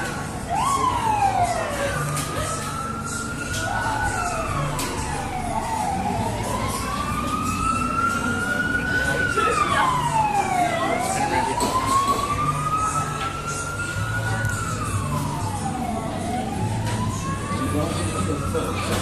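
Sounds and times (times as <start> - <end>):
fire truck sirens wailing: 0.0 - 19.0.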